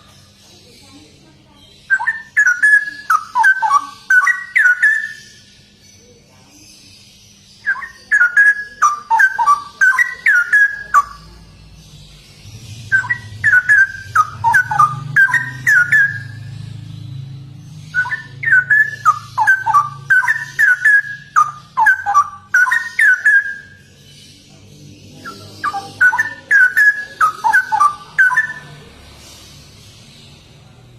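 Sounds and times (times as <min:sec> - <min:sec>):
bird singing whistled notes: 0:01.8 - 0:06.1, 0:06.7 - 0:28.8.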